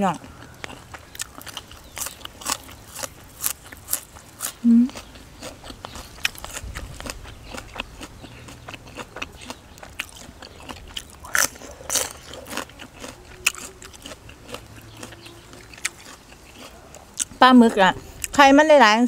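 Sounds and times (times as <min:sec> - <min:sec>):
person chewing crunchy food: 0:00.0 - 0:18.4.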